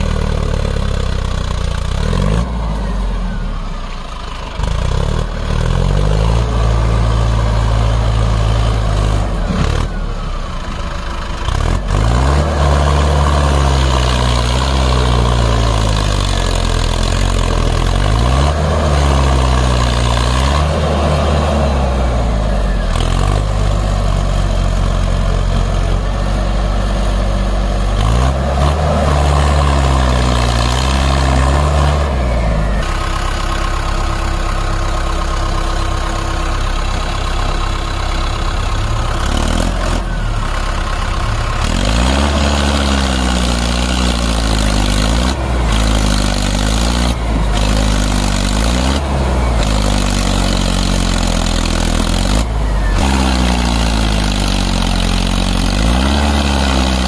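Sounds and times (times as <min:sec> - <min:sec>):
heavy diesel engines revving: 0:00.0 - 0:57.0.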